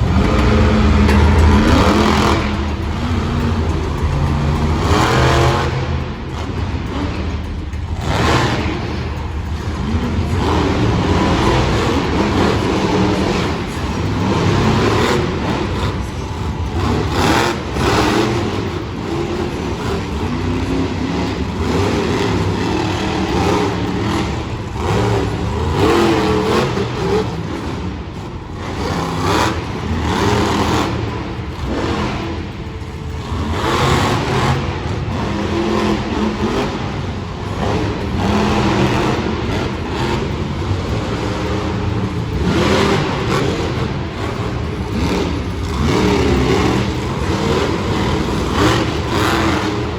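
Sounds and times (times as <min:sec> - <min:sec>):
truck engines revving: 0:00.0 - 0:49.9.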